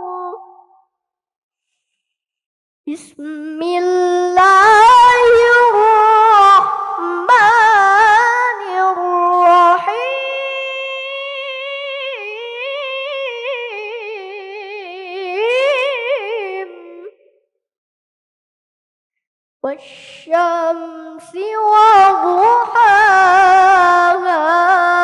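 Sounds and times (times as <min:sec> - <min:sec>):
boy reciting melodically: 0:00.0 - 0:00.6, 0:02.9 - 0:17.2, 0:19.6 - 0:25.0.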